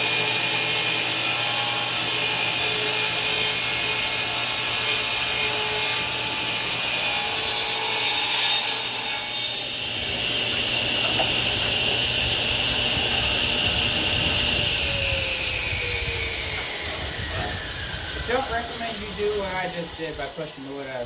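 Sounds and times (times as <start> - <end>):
table saw cutting wood: 0.0 - 21.0.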